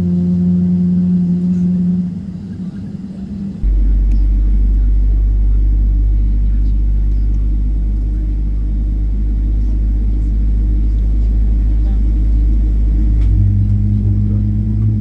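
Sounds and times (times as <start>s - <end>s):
aircraft cabin hum: 0.0s - 15.0s
deep engine rumble: 0.0s - 15.0s.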